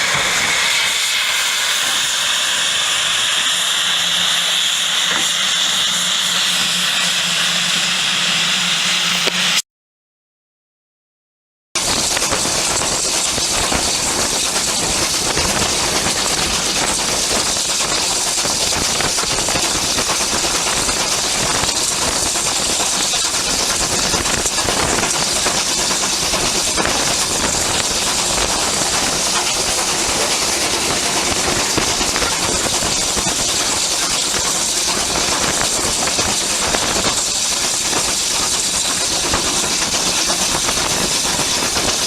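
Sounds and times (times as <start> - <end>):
steam locomotive hissing steam: 0.0 - 9.6, 15.1 - 42.0.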